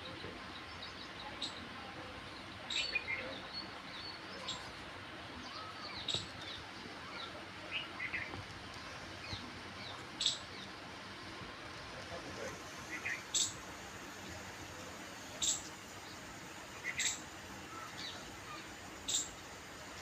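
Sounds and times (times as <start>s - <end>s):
background hiss: 0.0s - 20.0s
birds chirping: 0.0s - 20.0s.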